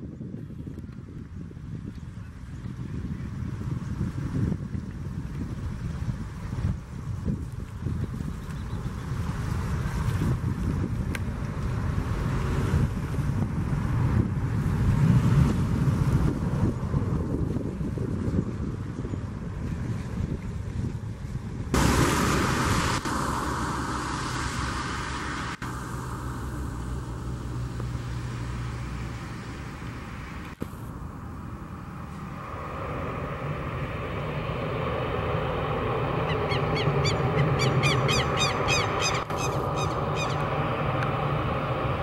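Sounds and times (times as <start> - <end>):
airliner engine rumble: 0.0 - 42.0
turboprop engines and propellers: 0.0 - 42.0.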